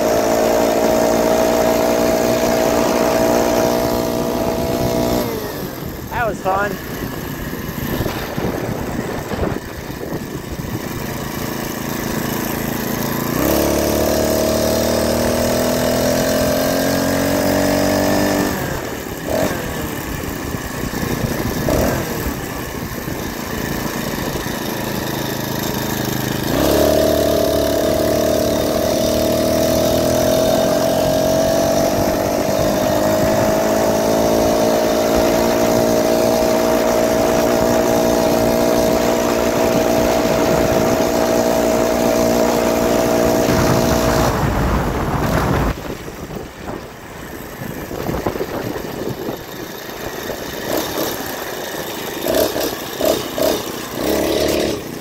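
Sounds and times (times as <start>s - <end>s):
small motorized bicycle engine: 0.0s - 55.0s.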